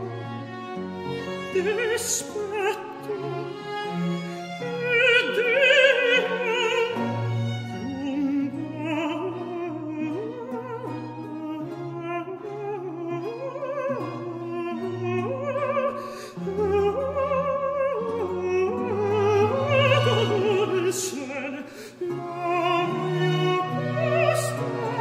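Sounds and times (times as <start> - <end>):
orchestral accompaniment: 0.0 - 25.0
operatic voice singing with vibrato: 1.3 - 25.0.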